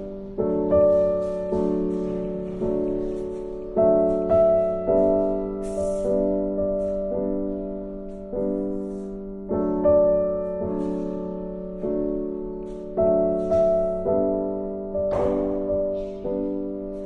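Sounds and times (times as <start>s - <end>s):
soft slow piano chords: 0.0s - 17.0s.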